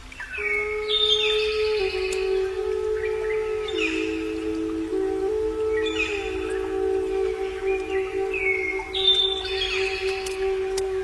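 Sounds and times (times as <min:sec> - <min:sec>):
ambient music drone: 0:00.0 - 0:11.0.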